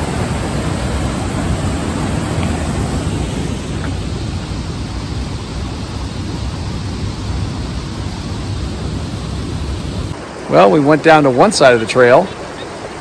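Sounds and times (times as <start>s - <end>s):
wind on microphone: 0.0s - 10.6s
creek rushing over waterfall: 0.0s - 13.0s.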